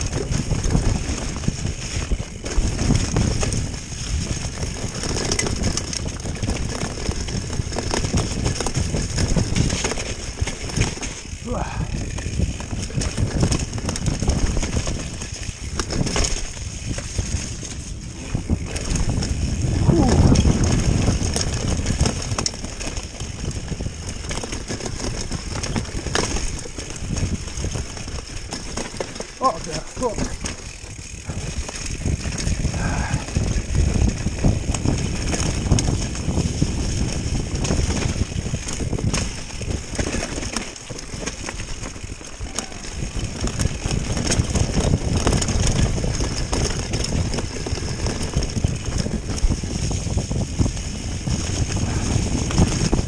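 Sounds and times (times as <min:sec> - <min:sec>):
bike rattling over bumps: 0:00.0 - 0:53.0
tyres on dirt: 0:00.0 - 0:53.0
wind rumbling on microphone: 0:00.0 - 0:53.0.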